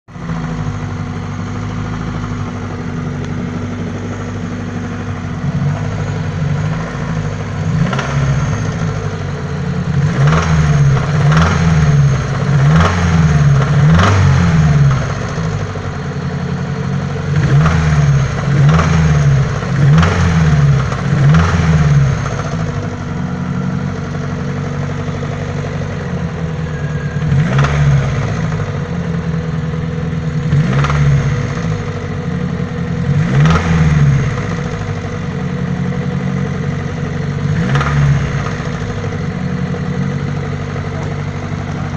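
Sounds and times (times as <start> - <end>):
car engine revving: 0.1 - 41.9
engine knocking: 0.1 - 41.9.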